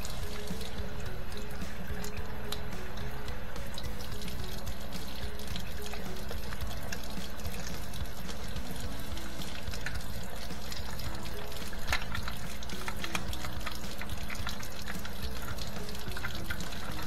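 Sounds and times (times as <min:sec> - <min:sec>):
water pouring and trickling: 0:00.0 - 0:17.0.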